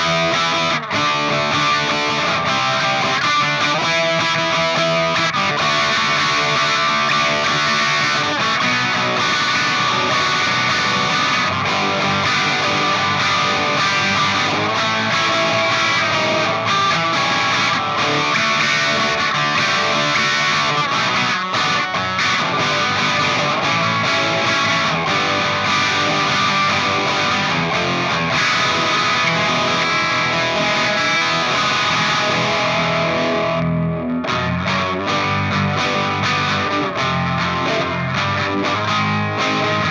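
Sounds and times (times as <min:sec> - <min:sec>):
distorted electric guitar noodling: 0:00.0 - 0:39.9.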